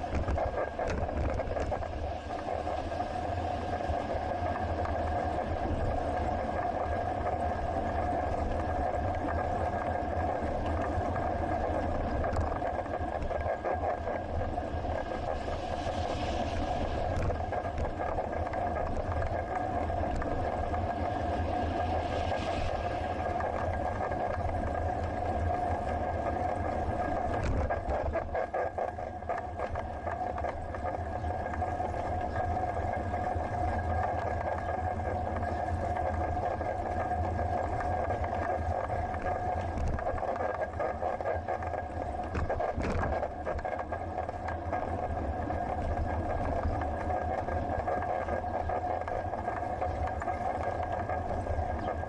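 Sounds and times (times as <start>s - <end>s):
low rumble under a hum: 0.0s - 52.0s
wind noise: 0.0s - 52.0s.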